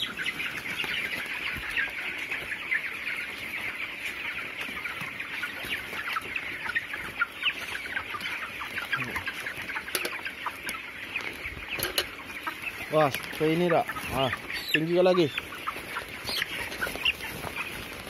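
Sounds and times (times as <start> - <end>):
chickens peeping and chirping: 0.0 - 18.0.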